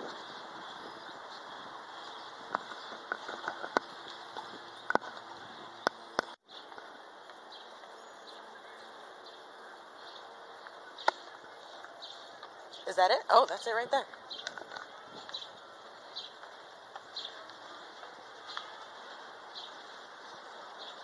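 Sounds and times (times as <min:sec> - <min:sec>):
street background rush: 0:00.0 - 0:21.0.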